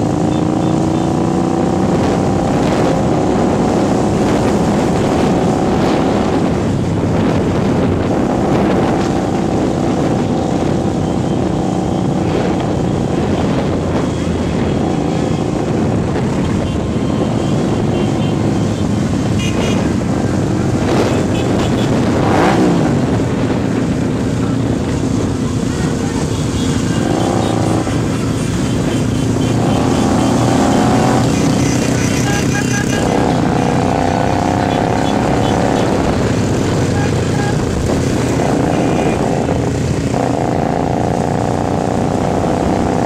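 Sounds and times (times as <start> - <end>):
motorcycle engine cruising: 0.0 - 43.0
motorcycle engine revving: 0.0 - 43.0
other motorcycle engines: 0.0 - 43.0
wind buffeting microphone: 1.2 - 31.9, 33.0 - 43.0.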